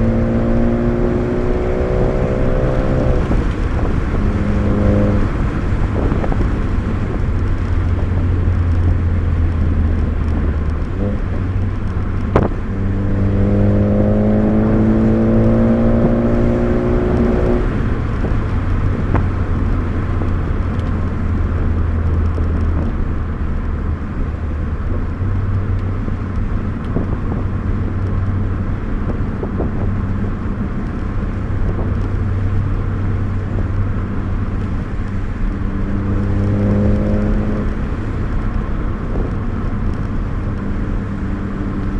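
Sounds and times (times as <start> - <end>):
car engine revving: 0.0 - 41.9
road noise inside car: 0.0 - 41.9.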